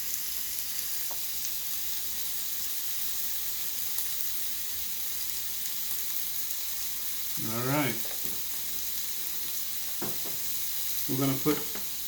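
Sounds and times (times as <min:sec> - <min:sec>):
chicken skewers sizzling on griddle: 0:00.0 - 0:12.0.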